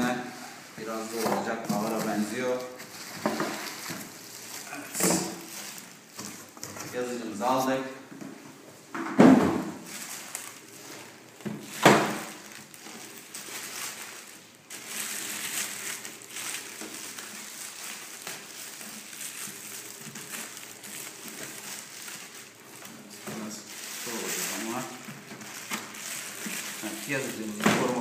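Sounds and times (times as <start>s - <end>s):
plastic bag crinkling: 0.0s - 8.0s, 9.7s - 28.0s.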